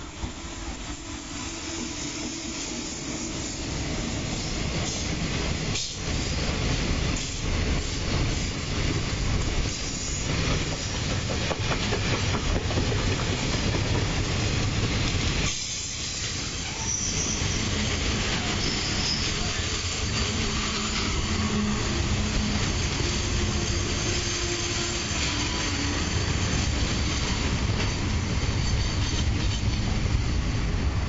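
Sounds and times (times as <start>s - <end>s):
train wheels running on rails: 0.0s - 31.0s.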